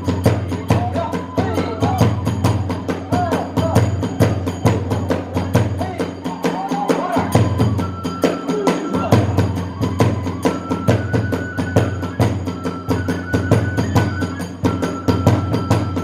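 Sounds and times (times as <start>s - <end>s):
bamboo flute melody: 0.0s - 16.0s
small hand cymbals: 0.0s - 16.0s
taiko drum beating: 0.0s - 16.0s.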